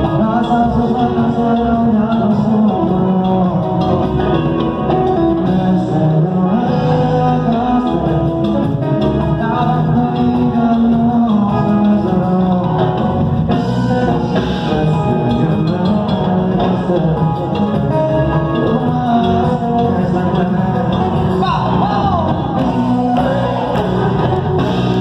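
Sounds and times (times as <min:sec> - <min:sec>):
bass guitar: 0:00.0 - 0:25.0
drums: 0:00.0 - 0:25.0
electric guitar: 0:00.0 - 0:25.0
man singing: 0:00.0 - 0:25.0.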